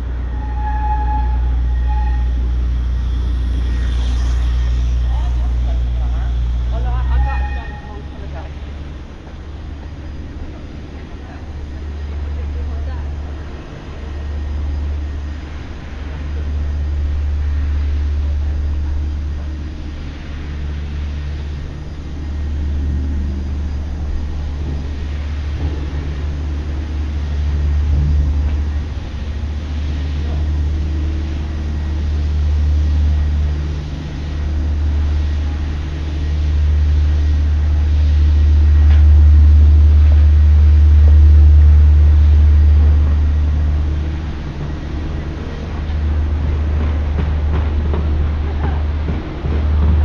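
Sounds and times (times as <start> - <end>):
engine hum: 0.0 - 50.0
low rumble of traffic: 0.0 - 50.0.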